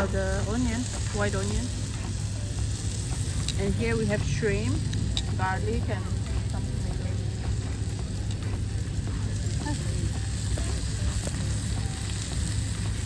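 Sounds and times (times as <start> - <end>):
food sizzling on a grill: 0.0 - 13.0
low rumble: 0.0 - 13.0.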